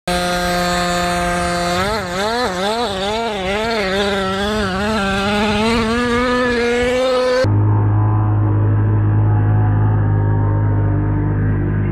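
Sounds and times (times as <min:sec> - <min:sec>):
two-stroke engine revving: 0:00.0 - 0:11.9.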